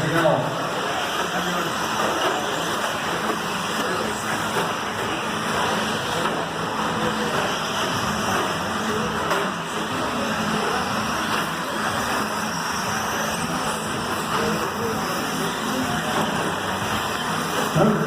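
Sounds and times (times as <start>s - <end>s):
electric rc trucks racing: 0.0s - 18.0s.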